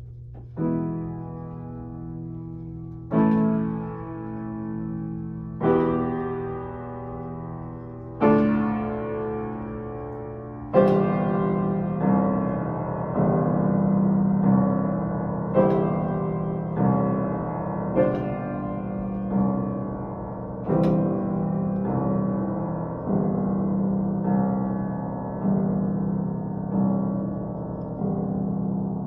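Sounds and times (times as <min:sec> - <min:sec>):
piano playing slow chords: 0:00.0 - 0:29.0.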